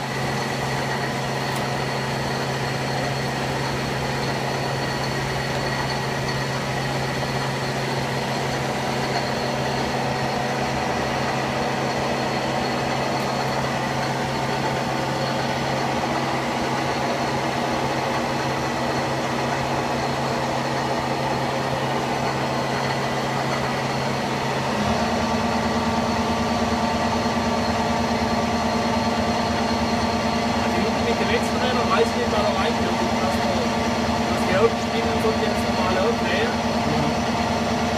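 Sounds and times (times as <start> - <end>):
machine humming with high whine: 0.0 - 37.9.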